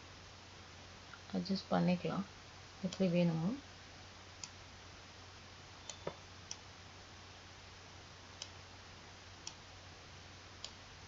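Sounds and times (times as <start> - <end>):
low hiss and hum: 0.0 - 11.0.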